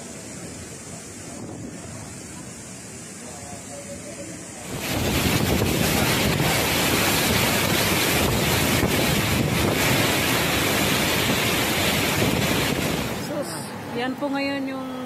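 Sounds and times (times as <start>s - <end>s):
strong wind buffeting microphone: 0.0s - 3.6s, 4.2s - 14.0s
driving rain: 0.0s - 15.0s.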